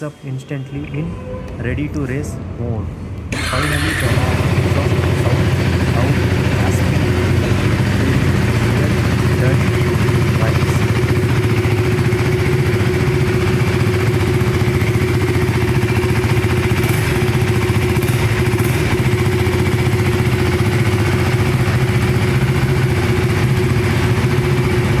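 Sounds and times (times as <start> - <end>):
motorcycle engine idling: 3.3 - 25.0.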